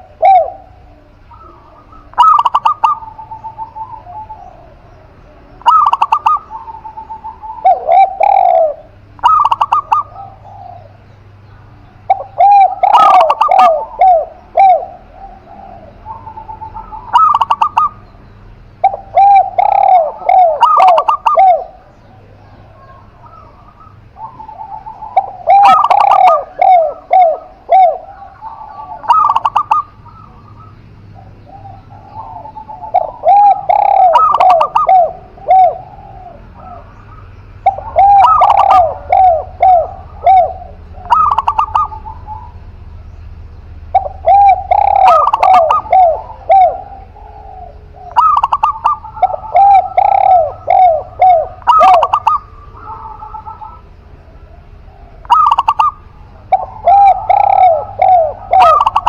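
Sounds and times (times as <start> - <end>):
doves cooing: 0.0 - 59.0.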